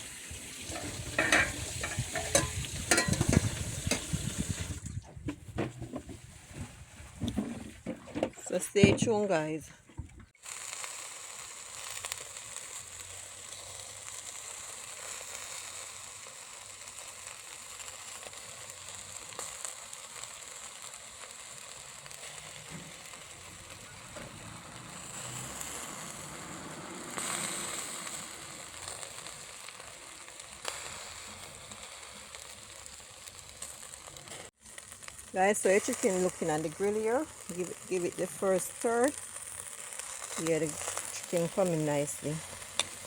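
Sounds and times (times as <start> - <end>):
chicken sizzling on a grill: 0.0 - 4.8, 10.4 - 43.0.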